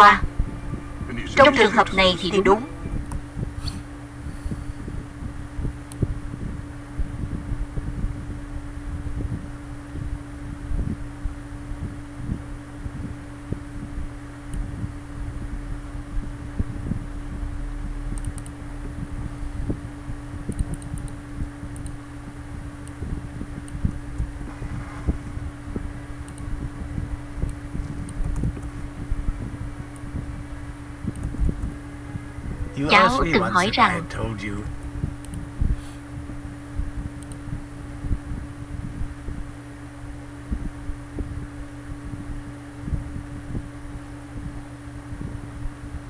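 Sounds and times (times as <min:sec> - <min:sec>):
soft low thumps: 0:00.0 - 0:32.8, 0:34.8 - 0:39.5, 0:40.5 - 0:43.7
room hum and rumble: 0:00.0 - 0:46.0.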